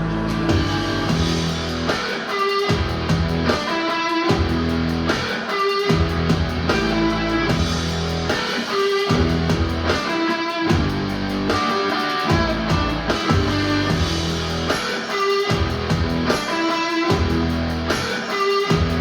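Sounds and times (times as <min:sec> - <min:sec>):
guitar-led music over loudspeaker: 0:00.0 - 0:19.0.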